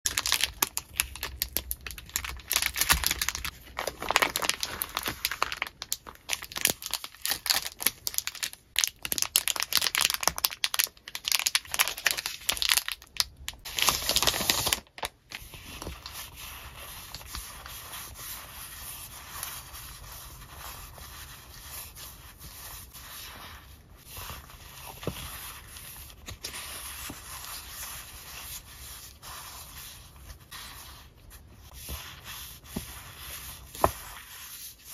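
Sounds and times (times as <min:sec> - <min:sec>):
plastic sleeves and stickers rustling: 0:00.1 - 0:34.9.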